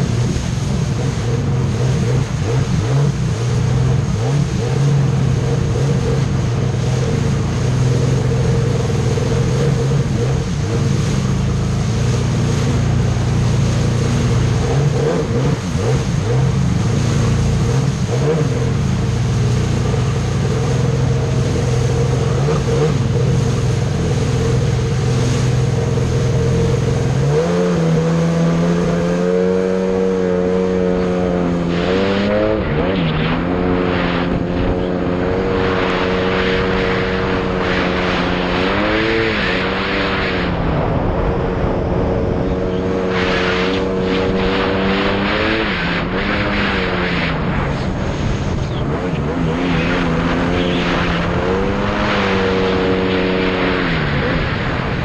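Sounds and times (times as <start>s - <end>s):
jet ski engine running: 0.0s - 55.0s
low rumble of choppy river: 0.0s - 55.0s
rushing water: 0.0s - 55.0s.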